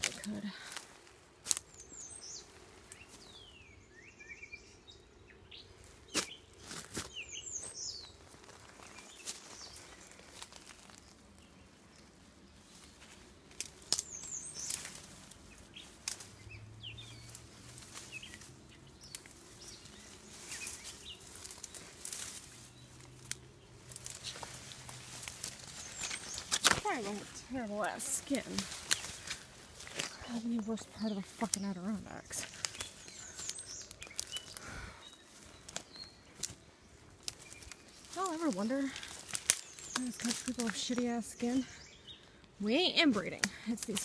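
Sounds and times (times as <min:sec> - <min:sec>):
leaves and stems rustling: 0:00.0 - 0:44.0
small birds chirping: 0:00.0 - 0:44.0.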